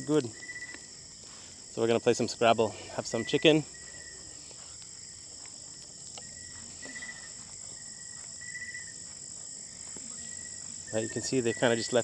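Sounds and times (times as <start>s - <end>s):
crickets high-pitched drone: 0.0s - 12.0s
lower insect trill: 0.0s - 12.0s.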